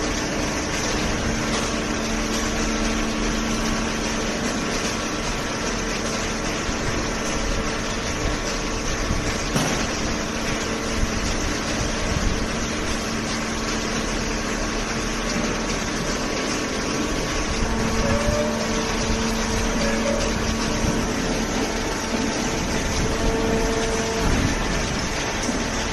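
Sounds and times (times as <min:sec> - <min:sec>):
hydraulic baler humming: 0:00.0 - 0:25.9.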